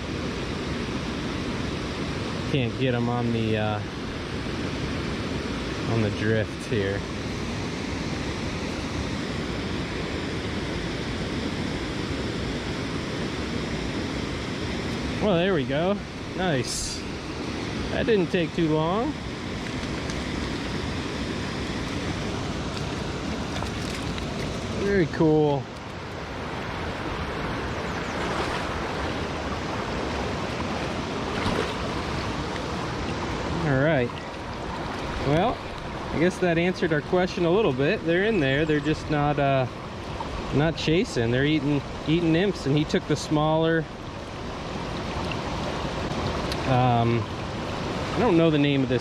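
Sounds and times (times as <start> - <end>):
stream water flowing: 0.0 - 49.0.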